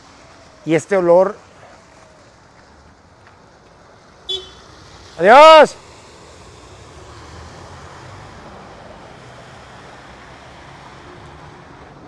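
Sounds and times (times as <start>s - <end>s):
car tyres through water: 0.0s - 12.0s
traffic noise: 0.0s - 12.0s.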